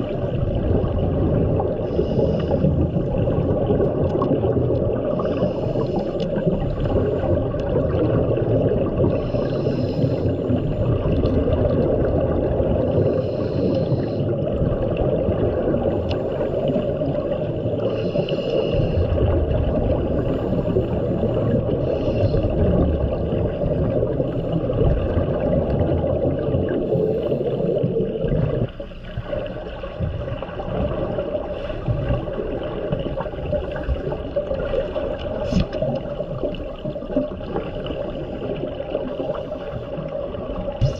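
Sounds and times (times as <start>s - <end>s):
diver's exhaled bubbles: 0.0s - 40.9s
underwater water rush: 0.0s - 40.9s.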